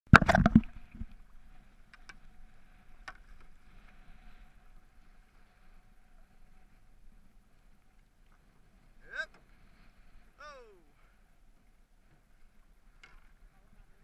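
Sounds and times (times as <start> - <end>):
paddle wash through water: 0.1 - 14.0.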